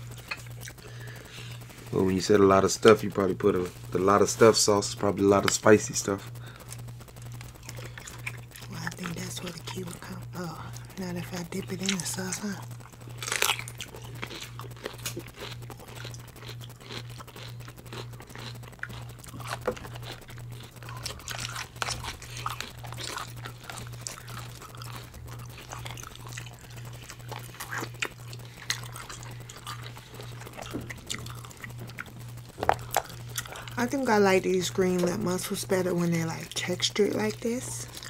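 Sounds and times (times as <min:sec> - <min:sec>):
chewing and crunching: 0:00.0 - 0:38.0
pulsing low hum: 0:00.0 - 0:38.0.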